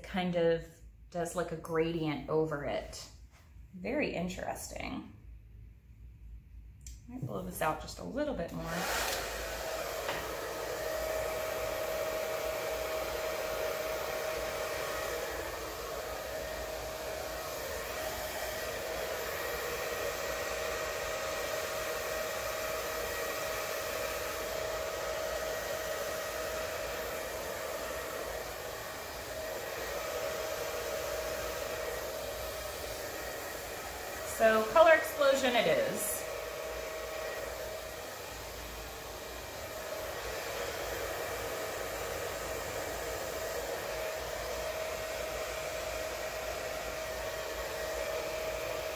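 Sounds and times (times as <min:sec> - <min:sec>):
hair dryer running: 0:06.9 - 0:48.9.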